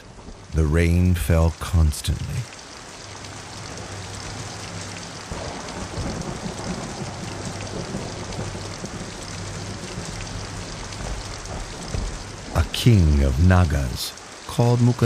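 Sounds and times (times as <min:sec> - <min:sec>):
heavy rainfall: 0:00.0 - 0:15.0.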